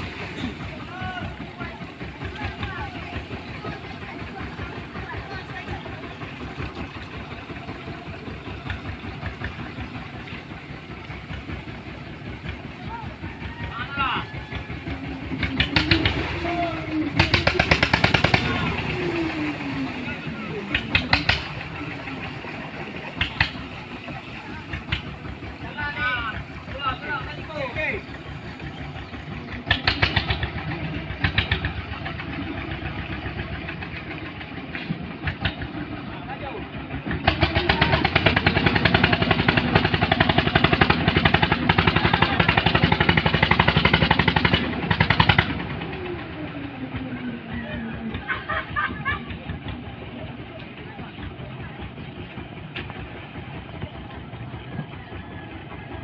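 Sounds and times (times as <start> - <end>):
engine rumbling: 0.0 - 56.0.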